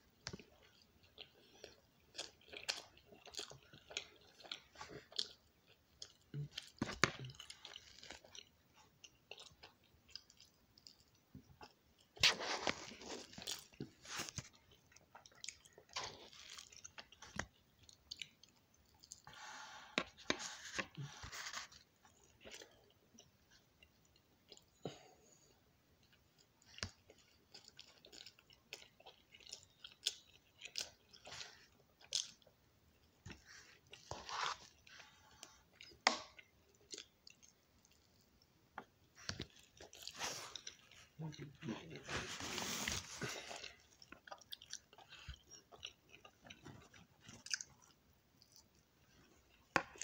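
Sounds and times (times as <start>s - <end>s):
person chewing bread: 0.0s - 50.0s.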